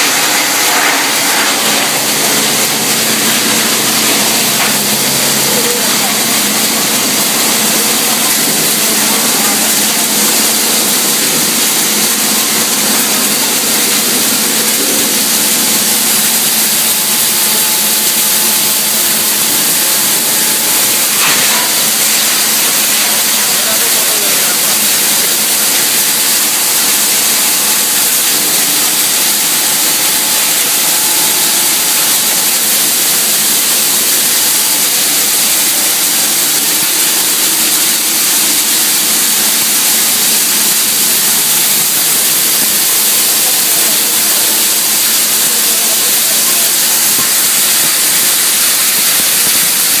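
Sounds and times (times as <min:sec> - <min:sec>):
plastic grinder hissing: 0:00.0 - 0:50.0.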